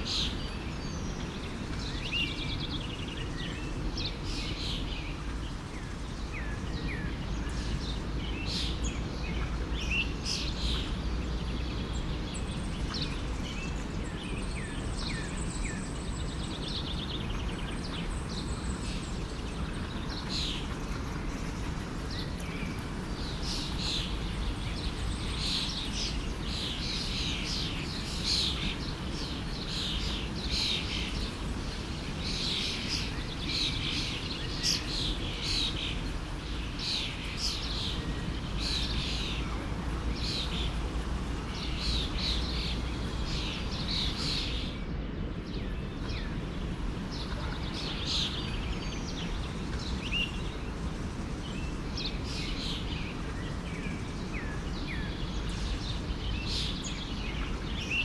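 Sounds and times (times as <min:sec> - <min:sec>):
forest stream rushing: 0:00.0 - 0:44.8, 0:45.6 - 0:58.0
small birds chirping: 0:00.0 - 0:58.0.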